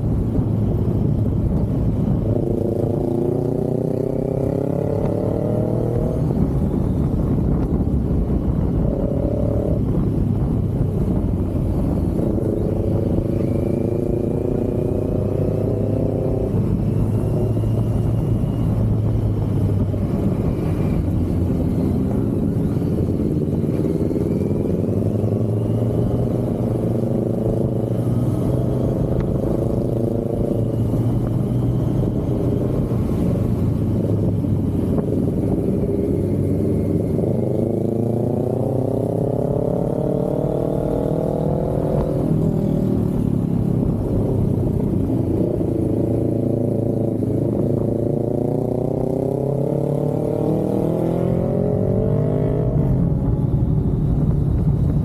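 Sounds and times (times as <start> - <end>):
motorcycle engine accelerating: 0.1 - 55.0.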